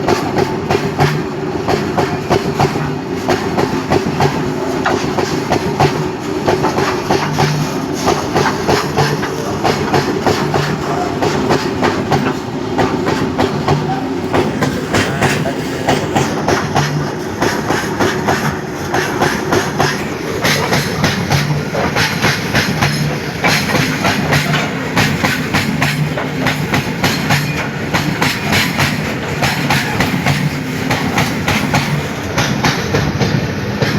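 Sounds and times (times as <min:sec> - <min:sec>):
train wheels clickety-clack: 0:00.0 - 0:33.9.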